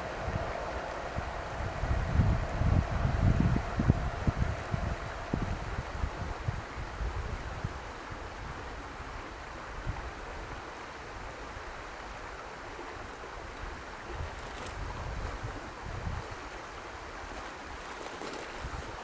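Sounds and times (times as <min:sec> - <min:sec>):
rain hiss: 0:00.0 - 0:19.0
wind gusting on microphone: 0:00.0 - 0:19.0.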